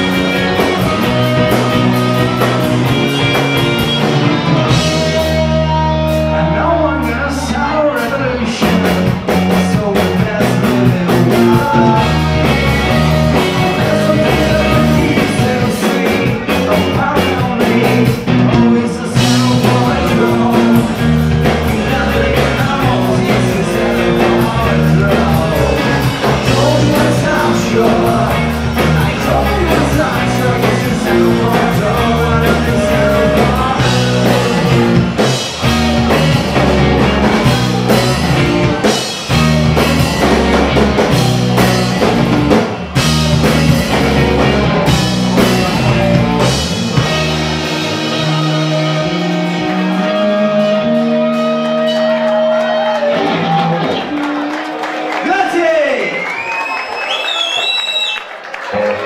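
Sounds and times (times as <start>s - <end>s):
drum kit beat: 0.0s - 7.2s, 8.0s - 54.8s
bass guitar: 0.0s - 56.0s, 58.6s - 59.0s
electric guitars: 0.0s - 57.6s, 58.2s - 59.0s.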